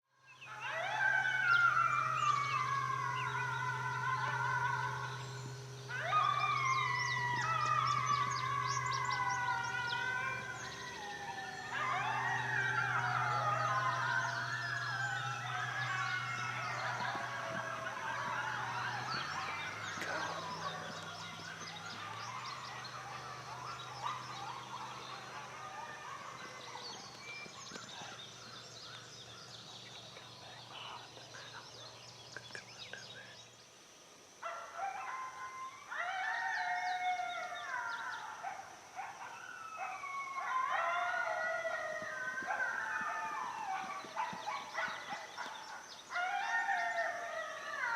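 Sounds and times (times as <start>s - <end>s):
coyotes howling and yipping: 0.2s - 33.6s, 34.2s - 47.9s.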